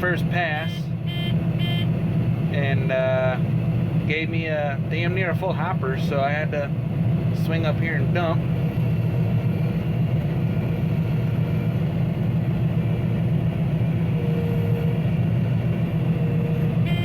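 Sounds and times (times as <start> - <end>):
harvester engine droning: 0.0 - 17.0.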